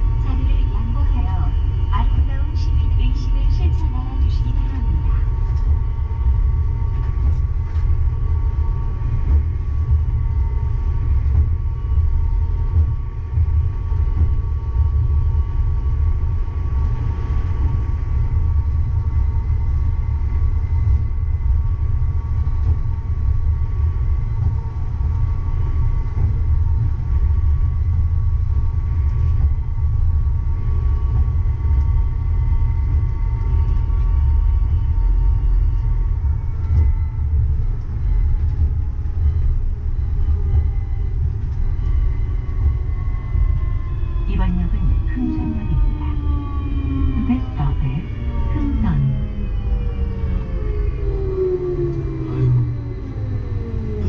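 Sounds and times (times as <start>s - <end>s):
traction drive whine: 0.0s - 54.0s
train low rumble: 0.0s - 54.0s.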